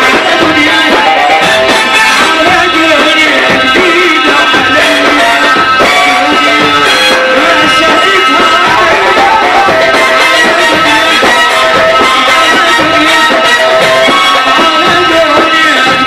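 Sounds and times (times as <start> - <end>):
tabla and drums: 0.0 - 16.0
wavering melodic lead: 0.0 - 16.0.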